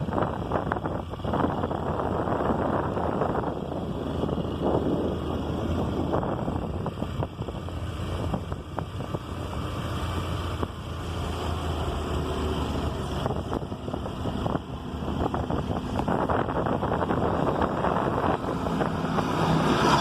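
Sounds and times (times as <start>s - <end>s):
motorbike engine running: 0.0s - 20.0s
wind buffeting microphone: 0.0s - 20.0s.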